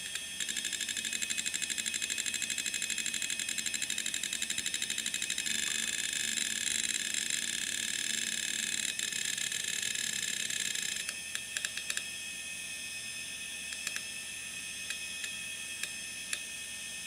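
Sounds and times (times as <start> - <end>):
hard drive chatter and whine: 0.0 - 17.0.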